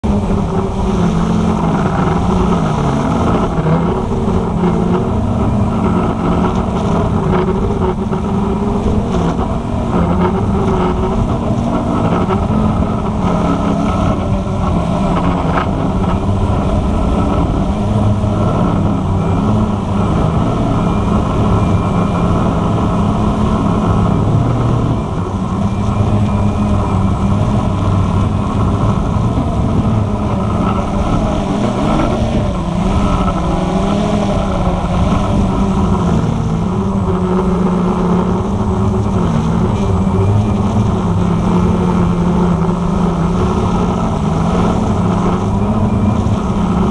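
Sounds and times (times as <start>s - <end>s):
quadcopter motors humming: 0.0s - 46.9s.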